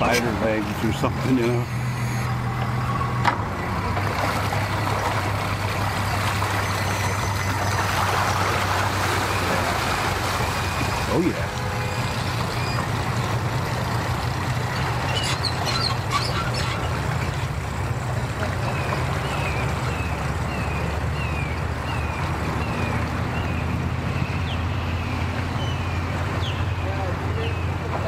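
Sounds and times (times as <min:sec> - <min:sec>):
outboard motor humming: 0:00.0 - 0:28.0.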